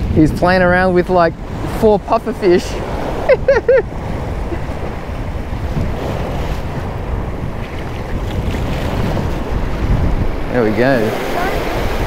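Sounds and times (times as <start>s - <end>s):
surf washing against rocks: 0.0s - 12.0s
wind rumbling on microphone: 0.0s - 12.0s.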